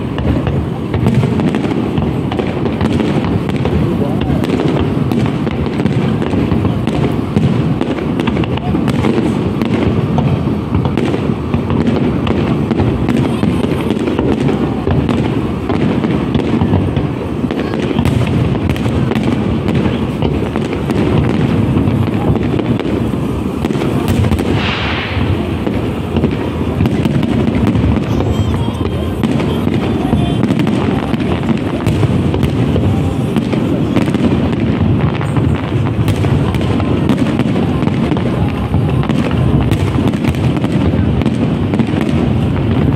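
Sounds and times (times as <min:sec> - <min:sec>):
fireworks booming: 0:00.0 - 0:42.9
fireworks crackling: 0:00.0 - 0:42.9.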